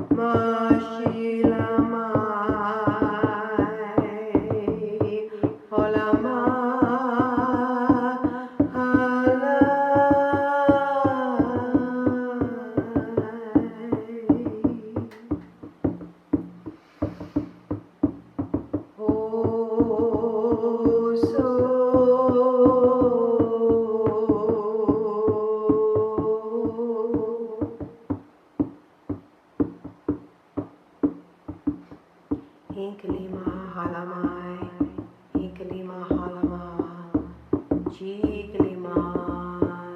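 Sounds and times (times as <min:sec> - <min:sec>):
steady drumbeat: 0:00.0 - 0:39.9.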